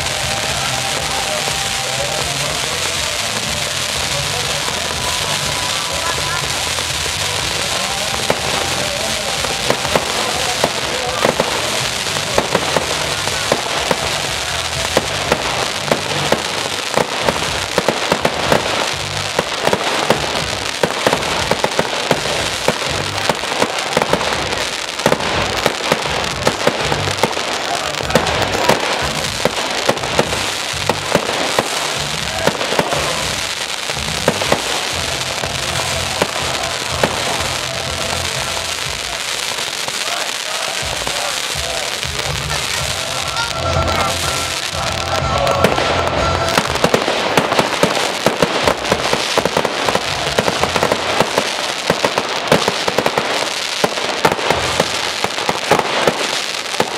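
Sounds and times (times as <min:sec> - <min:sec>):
fireworks crackling and banging: 0:00.0 - 0:56.9.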